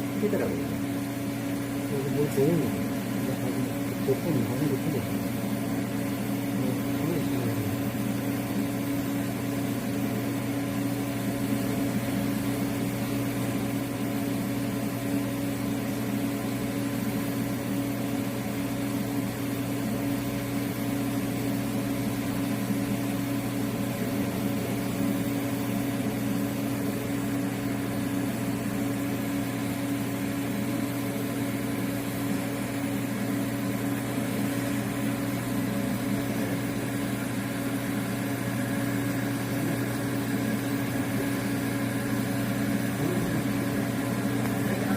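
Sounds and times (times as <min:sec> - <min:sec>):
arc welder electrical hum: 0:00.0 - 0:44.9.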